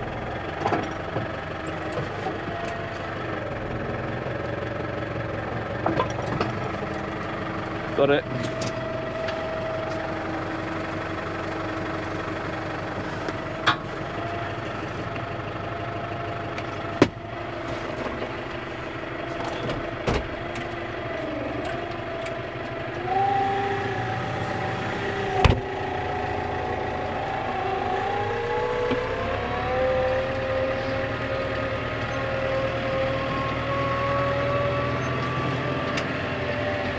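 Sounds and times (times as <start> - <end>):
loader engine running: 0.0 - 36.9.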